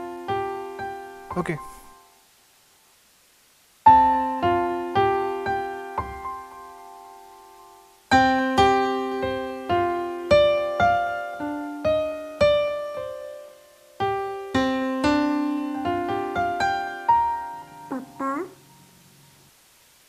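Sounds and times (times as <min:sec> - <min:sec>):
gentle piano melody: 0:00.0 - 0:02.2, 0:03.8 - 0:18.9.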